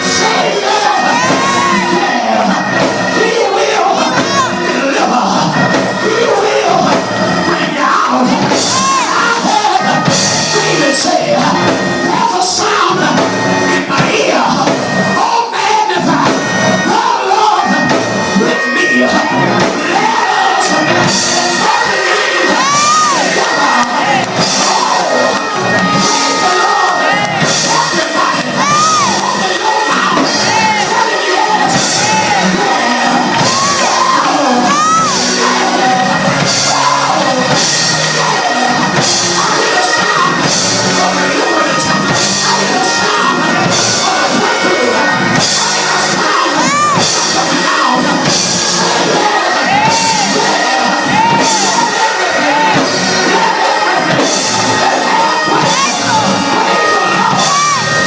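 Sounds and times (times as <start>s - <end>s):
congregation singing and shouting: 0.0s - 58.0s
loud gospel music: 0.0s - 58.0s.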